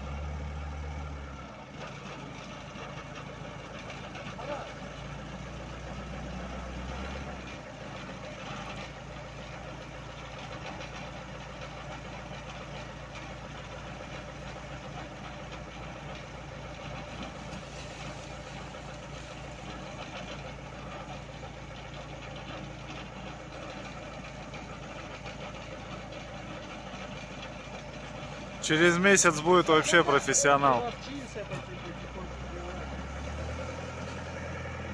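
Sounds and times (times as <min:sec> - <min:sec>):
forklift engine running: 0:00.0 - 0:34.9.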